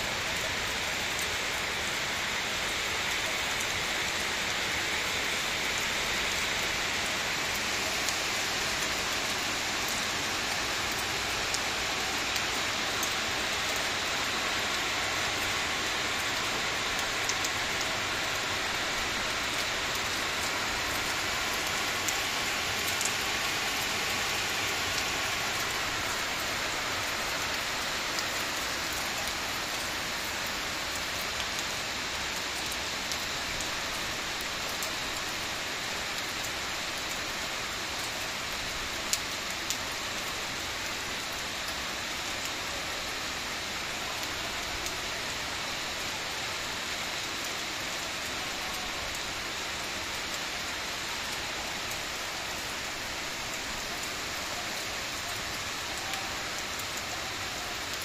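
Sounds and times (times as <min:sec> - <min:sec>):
rain hissing on roofs: 0:00.0 - 0:58.0.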